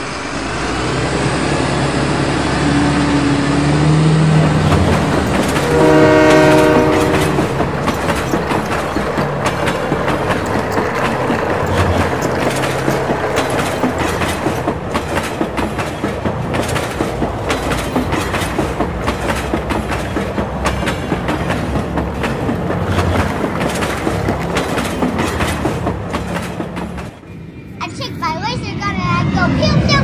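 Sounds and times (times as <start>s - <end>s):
train wheels clattering on track: 0.0s - 27.2s.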